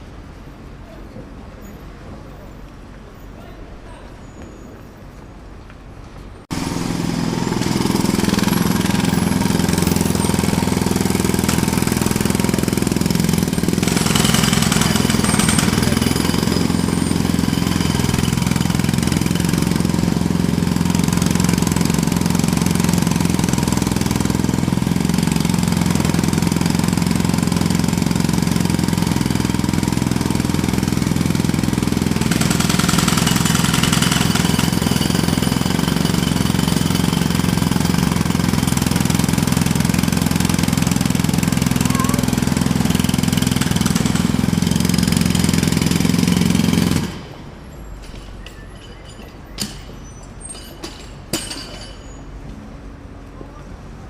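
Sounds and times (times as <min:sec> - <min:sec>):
jackhammer hammering: 0:06.5 - 0:52.2.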